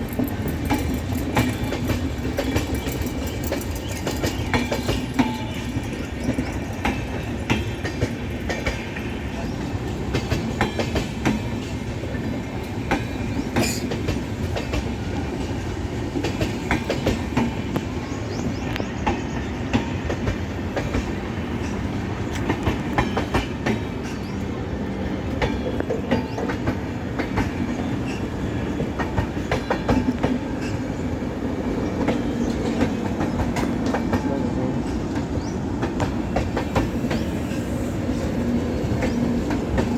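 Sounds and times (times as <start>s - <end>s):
train wheels clattering over rail joints: 0.0s - 24.5s, 25.1s - 39.9s
train rumble: 0.0s - 39.9s.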